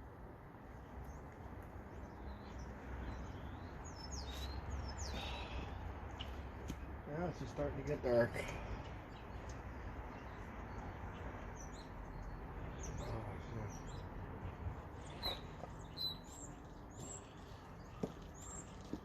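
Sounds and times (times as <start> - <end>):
small birds chirping: 0.5 - 19.0.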